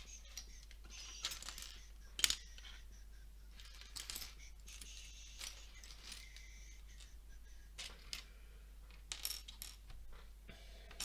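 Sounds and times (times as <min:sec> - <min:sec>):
plastic pieces clicking and clattering: 0:00.0 - 0:10.3.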